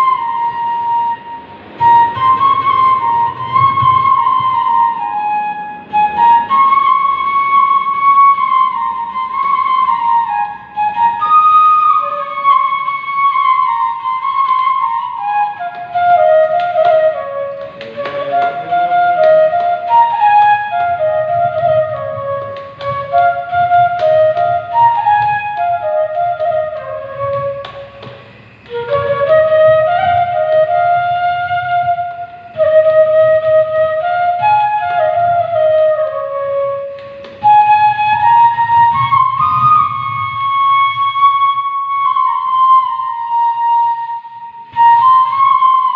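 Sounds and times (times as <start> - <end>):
bamboo flute melody: 0.0 - 45.9.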